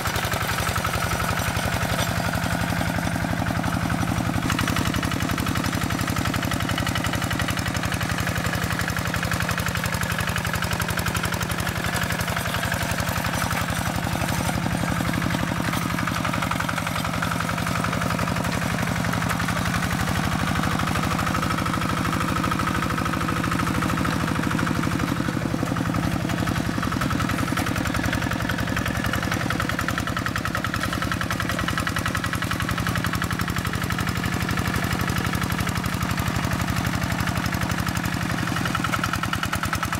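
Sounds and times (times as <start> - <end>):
diesel engine running: 0.0 - 39.9
wheels churning through water: 0.0 - 39.9.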